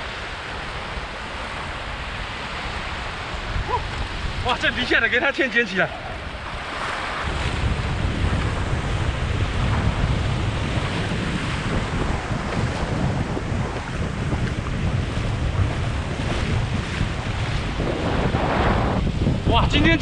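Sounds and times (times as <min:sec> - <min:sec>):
heavy surf: 0:00.0 - 0:20.0
wind buffeting microphone: 0:00.0 - 0:20.0.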